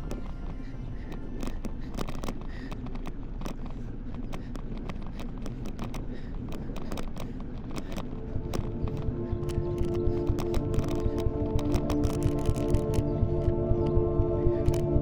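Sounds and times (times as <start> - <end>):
bicycle clicks and rattles: 0.0 - 8.8, 9.4 - 13.6
wind rumble on microphone: 0.0 - 15.0.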